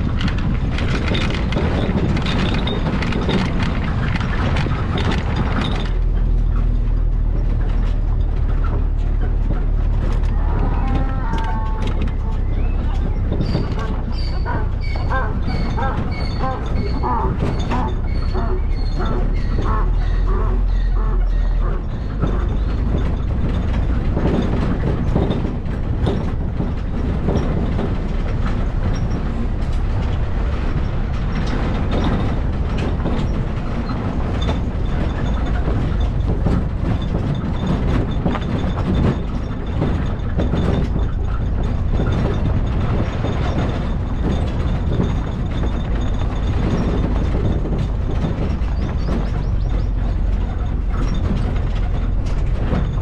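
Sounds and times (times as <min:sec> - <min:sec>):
vehicle rattles and knocks: 0:00.0 - 0:53.0
vehicle ride rumble: 0:00.0 - 0:53.0.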